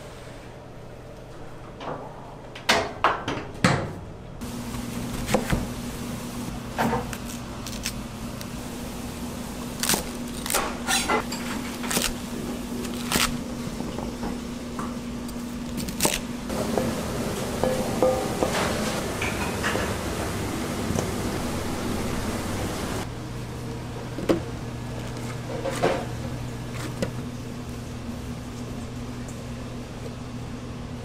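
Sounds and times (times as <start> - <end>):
steady low hum: 4.0 - 31.0.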